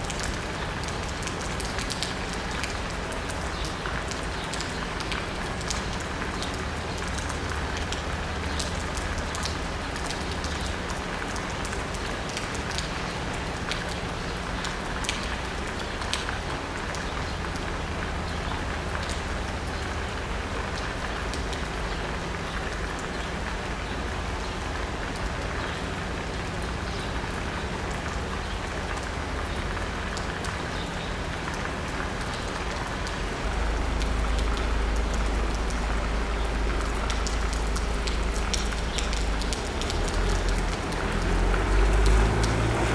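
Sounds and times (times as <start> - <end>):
rain on asphalt and roof: 0.0 - 42.9
raindrops ticking: 0.0 - 42.9.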